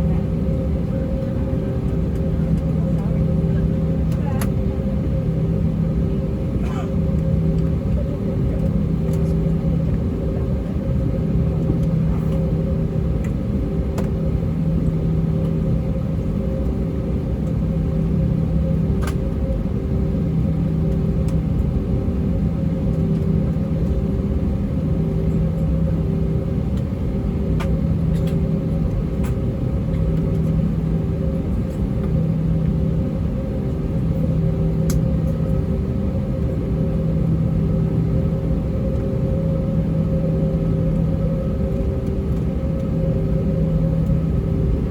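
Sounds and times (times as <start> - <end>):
aircraft cabin engine hum: 0.0 - 44.9.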